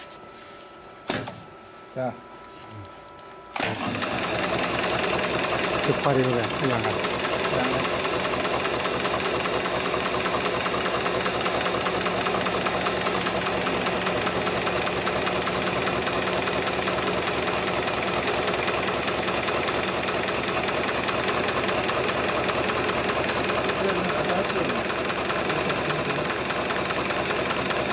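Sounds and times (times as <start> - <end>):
sewing machine stitching: 3.6 - 27.9.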